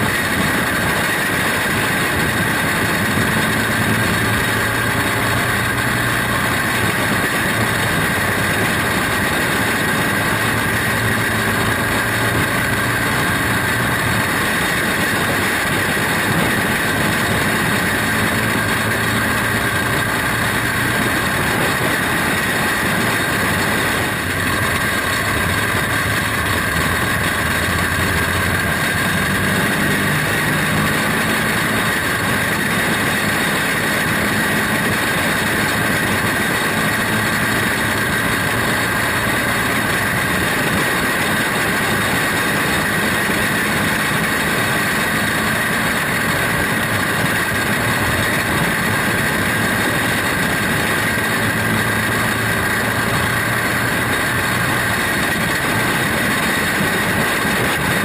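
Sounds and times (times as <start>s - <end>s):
kart engine running steadily: 0.0s - 58.0s.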